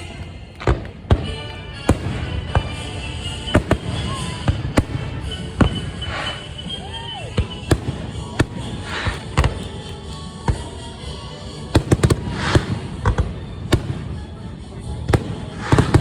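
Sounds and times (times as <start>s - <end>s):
fireworks hissing bursts: 0.0s - 10.2s, 11.8s - 16.0s
fireworks popping: 0.0s - 10.6s, 11.8s - 14.3s, 15.0s - 16.0s
fireworks bangs and cracks: 0.0s - 10.7s, 11.8s - 16.0s.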